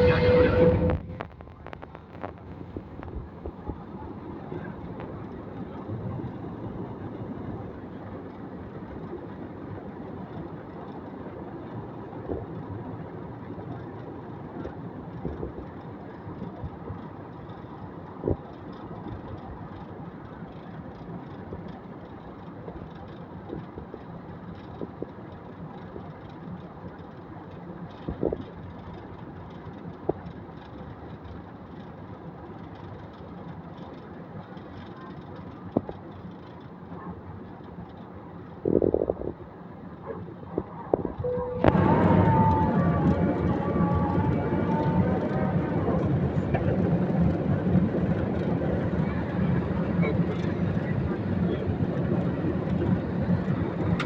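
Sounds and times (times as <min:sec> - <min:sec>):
airplane engines rumbling: 0:00.0 - 0:23.7, 0:32.6 - 0:54.0.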